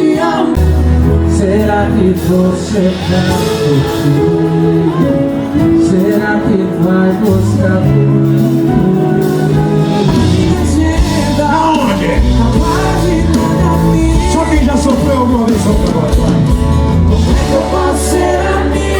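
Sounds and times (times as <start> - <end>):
lead vocal singing: 0.0 - 18.9
live band music: 0.0 - 18.9
steady bass line: 0.0 - 18.9.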